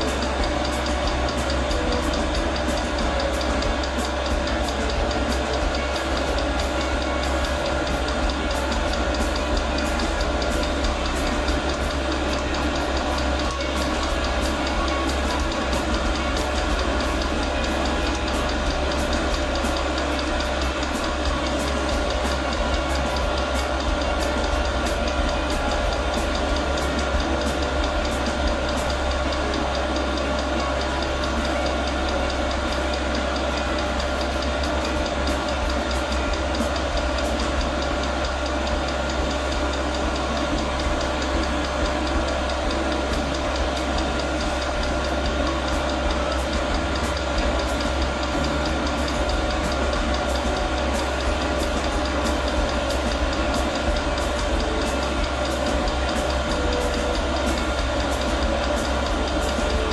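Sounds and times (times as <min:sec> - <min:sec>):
fuel pump ticking: 0:00.0 - 0:59.9
heater blower humming: 0:00.0 - 0:59.9.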